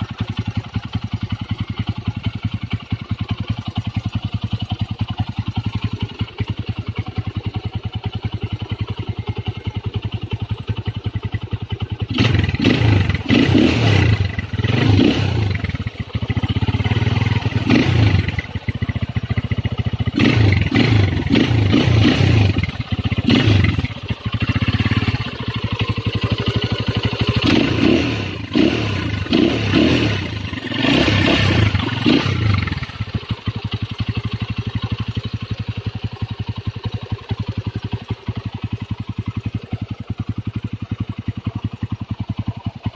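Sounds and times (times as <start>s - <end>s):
motorcycle engine idling: 0.0s - 42.9s
motorcycle engine revving: 0.0s - 42.9s.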